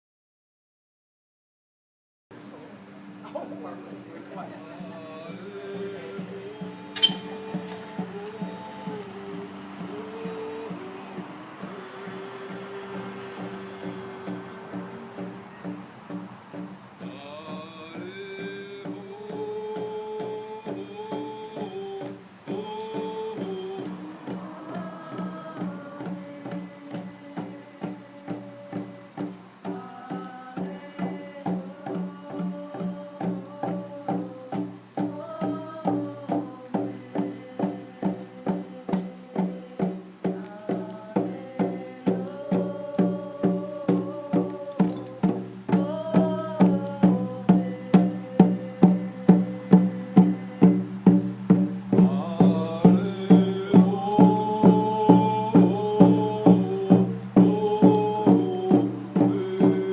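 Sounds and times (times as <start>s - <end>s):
voices singing: 2.4s - 59.9s
steady drum beat: 3.3s - 59.9s.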